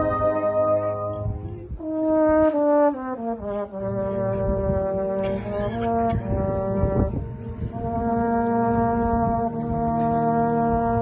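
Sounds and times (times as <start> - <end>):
military brass band playing: 0.0 - 11.0.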